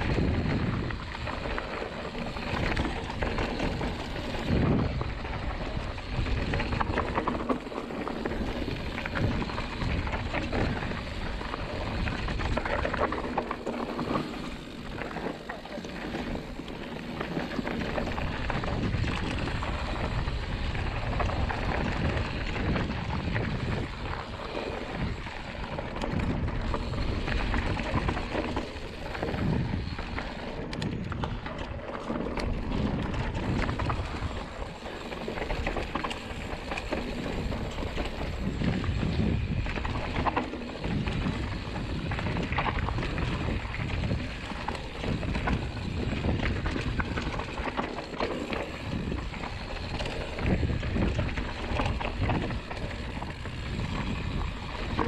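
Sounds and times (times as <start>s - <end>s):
wind on microphone: 0.0s - 15.2s, 17.2s - 55.0s
bike rattling and knocking: 0.0s - 55.0s
tyres rolling over gravel: 0.0s - 55.0s.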